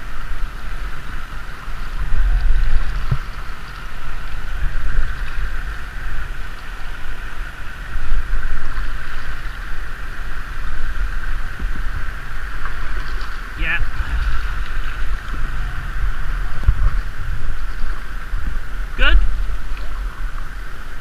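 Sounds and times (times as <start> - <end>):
paddles splashing water: 0.0 - 21.0
river water rushing: 0.0 - 21.0
wind on microphone: 0.0 - 21.0.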